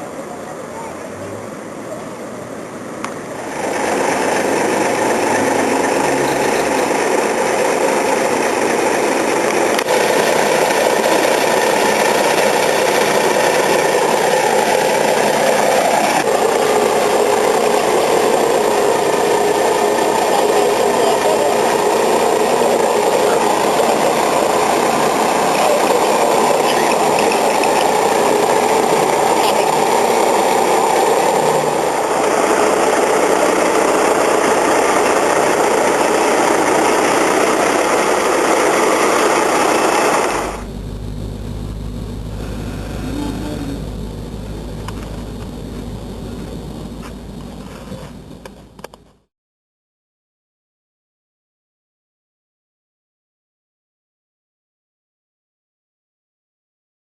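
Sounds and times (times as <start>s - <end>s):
steady hum: 2.6s - 49.3s
large engine running loudly: 2.8s - 49.3s.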